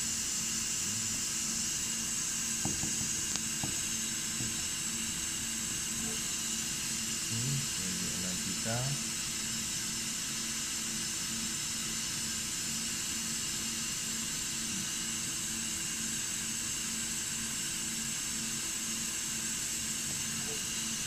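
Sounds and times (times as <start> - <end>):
dicing saw running: 0.0 - 21.0.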